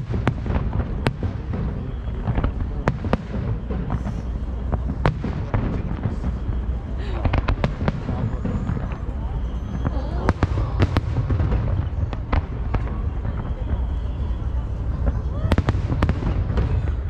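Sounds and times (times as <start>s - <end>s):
continuous low rumble: 0.0s - 17.0s
fireworks bangs and cracks: 0.0s - 17.0s.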